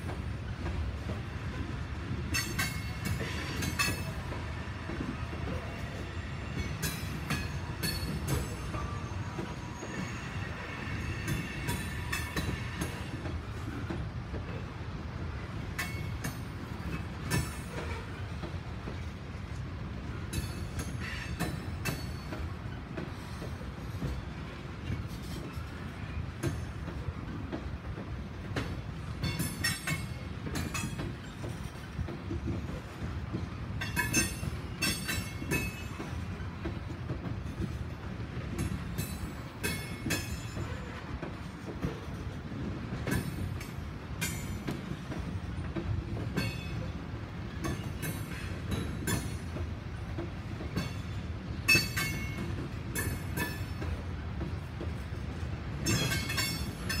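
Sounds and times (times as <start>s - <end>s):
train cars rumbling past: 0.0s - 57.0s.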